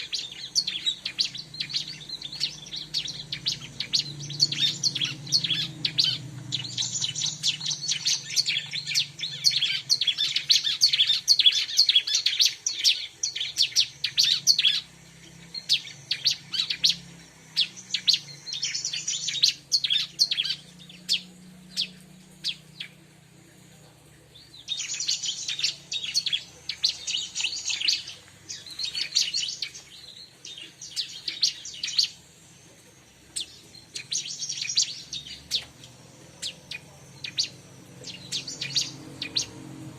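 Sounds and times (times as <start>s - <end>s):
bird chirping rapidly: 0.0s - 23.4s, 24.1s - 39.9s.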